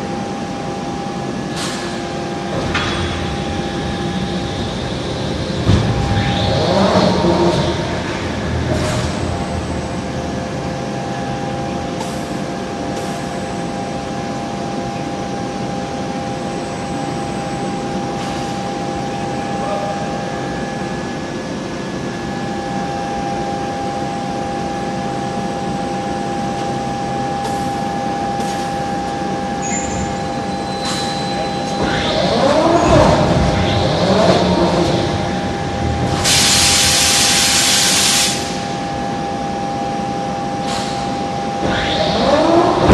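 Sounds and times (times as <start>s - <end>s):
machinery humming: 0.0s - 42.9s.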